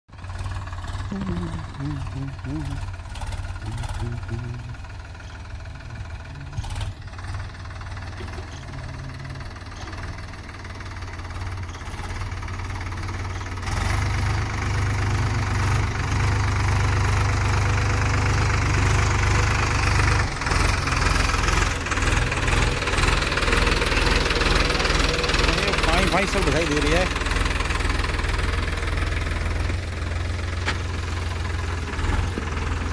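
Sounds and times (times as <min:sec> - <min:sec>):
tractor diesel engine running: 0:00.1 - 0:32.9.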